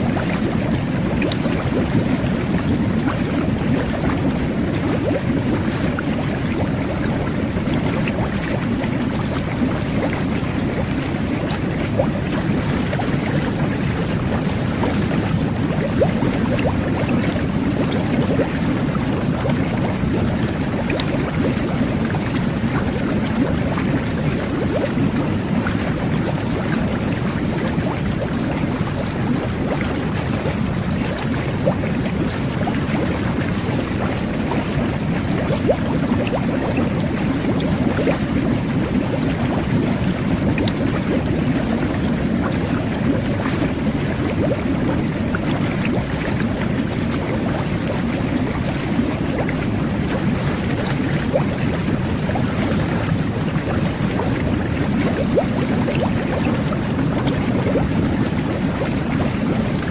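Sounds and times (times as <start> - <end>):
water churning and bubbling: 0.0 - 59.9.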